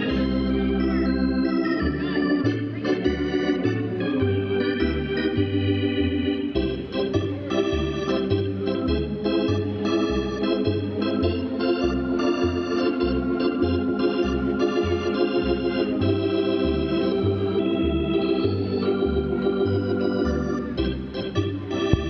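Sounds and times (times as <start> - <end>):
organ chords over bass line: 0.0 - 22.0.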